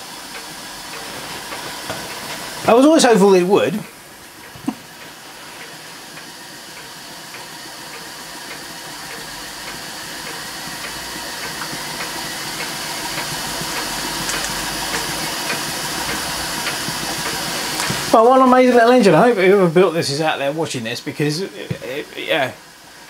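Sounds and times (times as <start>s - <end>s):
steam engine hissing: 0.0s - 23.0s.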